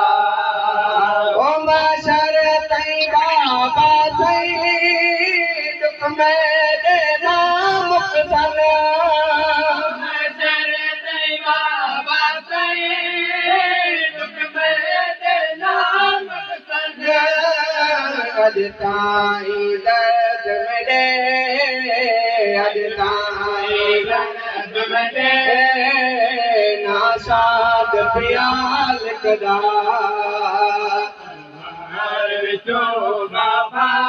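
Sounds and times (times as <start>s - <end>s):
man chanting into a microphone: 0.0s - 34.0s.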